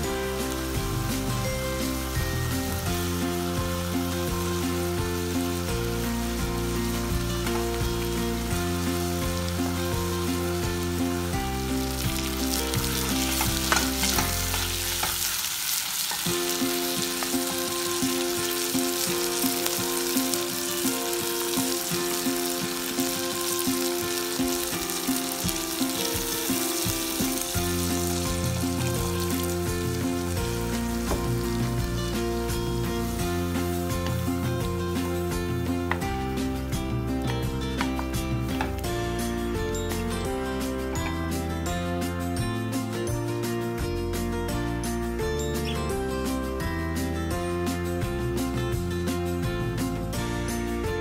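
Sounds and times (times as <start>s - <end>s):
chicken sizzling in a pot: 0.0s - 41.4s
background music: 0.0s - 51.0s.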